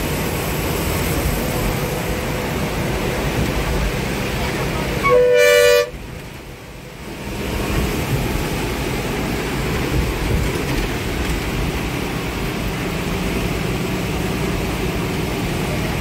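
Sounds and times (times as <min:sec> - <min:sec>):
bus engine running: 0:00.0 - 0:16.0
heavy rain: 0:00.0 - 0:16.0.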